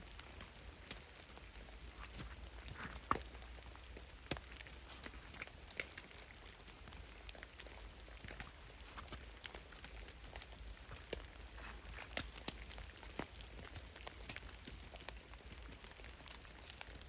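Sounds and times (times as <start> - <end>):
faint steady hiss: 0.0 - 17.0
meltwater drops falling: 0.0 - 17.0.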